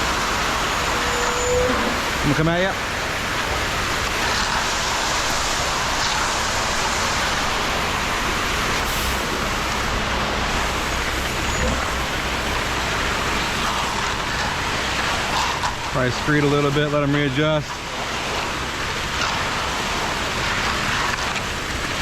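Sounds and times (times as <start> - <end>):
concrete rushing from mixer: 0.0 - 22.0
low engine hum: 0.0 - 22.0.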